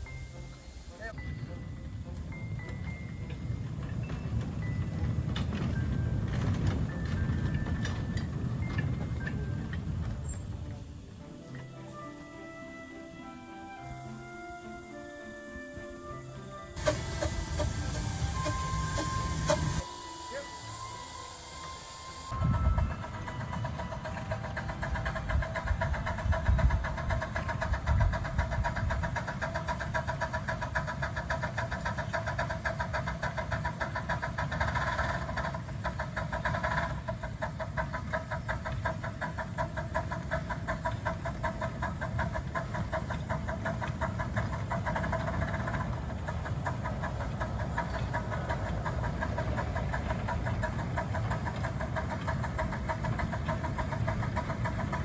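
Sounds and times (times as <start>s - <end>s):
miniature steam train running: 0.0s - 55.0s.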